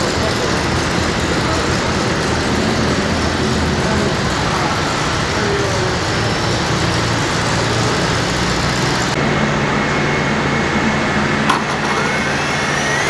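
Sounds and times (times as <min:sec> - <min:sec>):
turbine whine rising: 0:00.0 - 0:13.0
turbine whoosh with low hum: 0:00.0 - 0:13.0.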